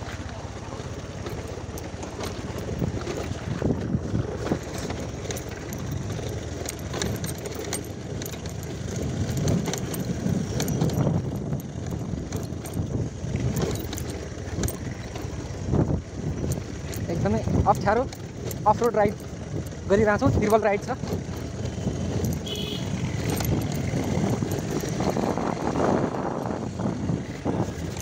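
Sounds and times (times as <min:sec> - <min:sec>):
motorcycle engine rumble: 0:00.0 - 0:28.0
motorcycle rattling over stones: 0:00.0 - 0:28.0.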